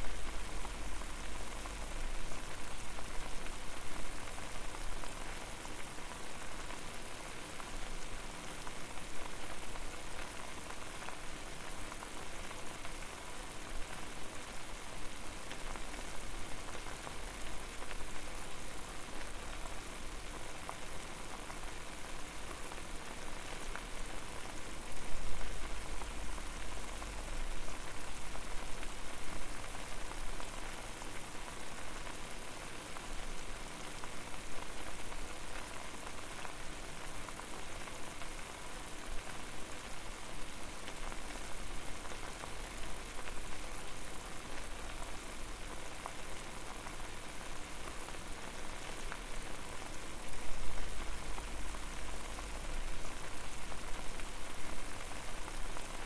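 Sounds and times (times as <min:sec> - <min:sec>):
water boiling with bubbling: 0:00.0 - 0:56.0.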